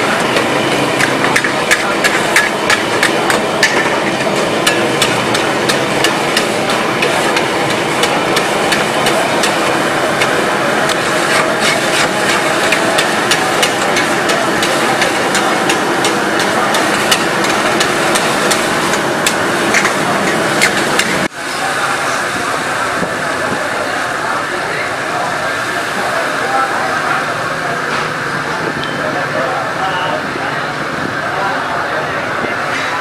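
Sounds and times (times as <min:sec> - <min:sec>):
gas flame and frying hiss: 0:00.0 - 0:33.0.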